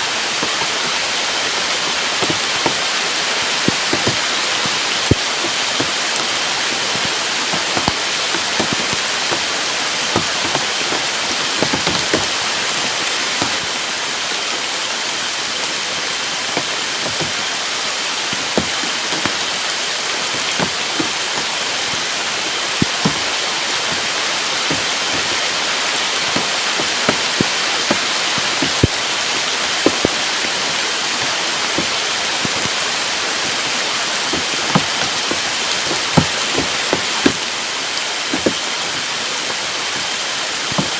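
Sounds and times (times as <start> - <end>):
heavy rain falling: 0.0 - 40.9
raindrops tapping close by: 0.0 - 40.9.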